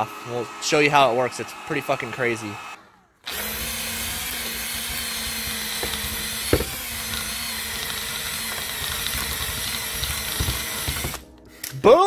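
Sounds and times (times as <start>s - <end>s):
power drill running: 0.0s - 11.6s.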